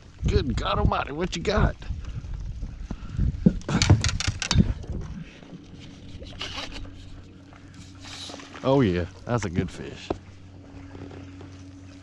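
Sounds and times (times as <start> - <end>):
faint low hum: 1.8 - 12.0.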